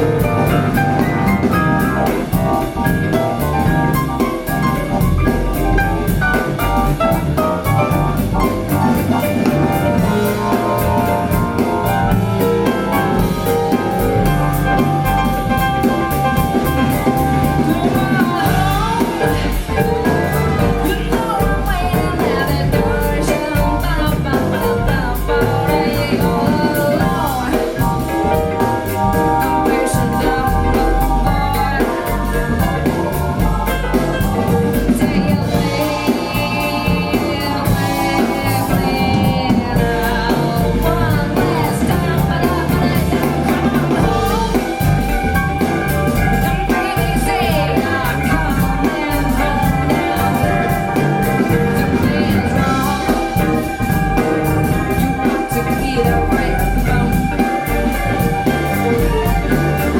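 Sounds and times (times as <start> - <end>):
jazz-blues song over speakers: 0.0 - 59.9.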